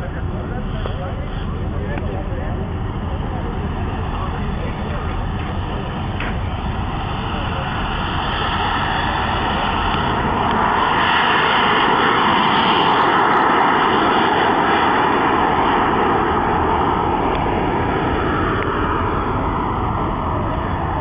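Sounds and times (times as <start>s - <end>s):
model jet turbines roaring: 0.0s - 21.0s.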